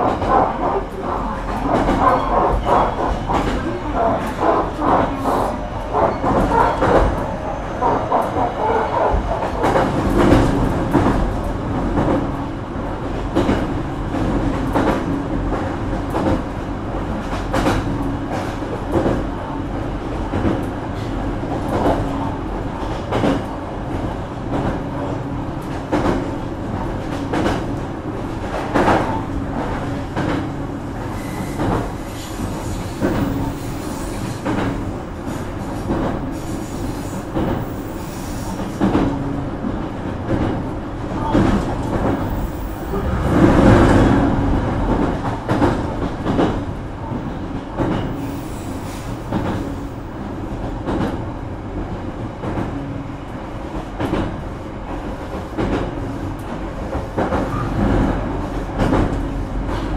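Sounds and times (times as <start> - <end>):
train low hum: 0.0 - 59.9.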